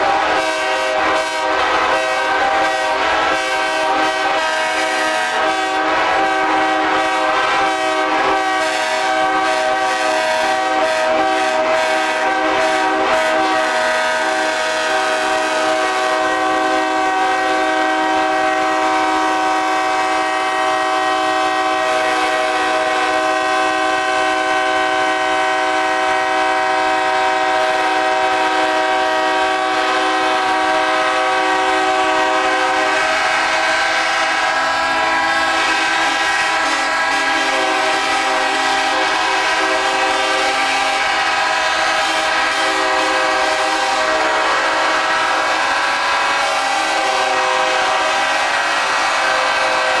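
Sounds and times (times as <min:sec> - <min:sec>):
locomotive air horns chord: 0:00.0 - 0:50.0.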